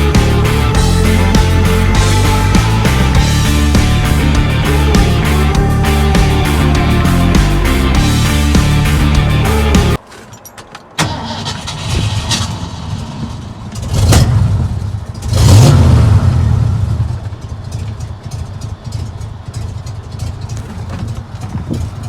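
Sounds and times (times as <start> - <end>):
pickup engine revving and idling: 0.0 - 10.0, 11.6 - 22.0.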